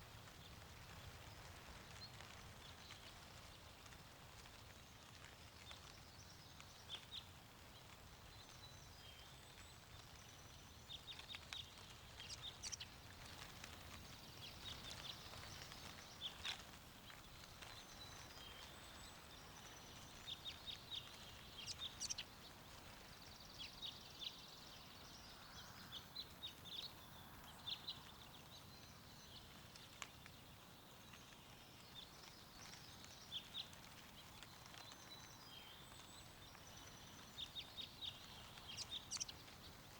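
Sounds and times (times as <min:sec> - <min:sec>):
small birds chirping: 0:00.1 - 0:39.9.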